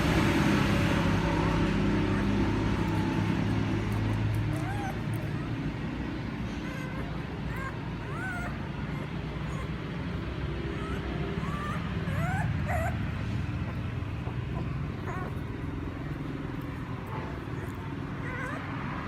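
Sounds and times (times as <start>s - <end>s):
puppy whimpering: 2.0s - 19.0s.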